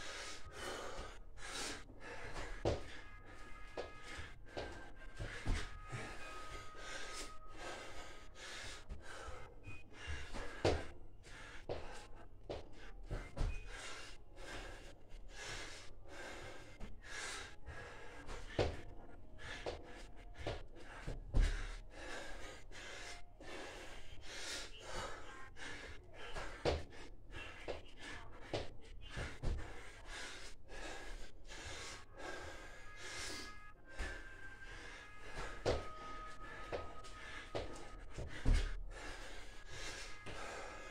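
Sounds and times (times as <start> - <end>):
man panting and gasping: 0.0 - 40.9.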